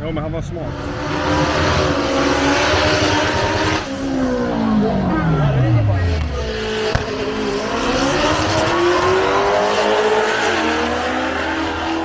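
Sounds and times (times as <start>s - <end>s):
drag racing car engine: 0.0s - 12.0s.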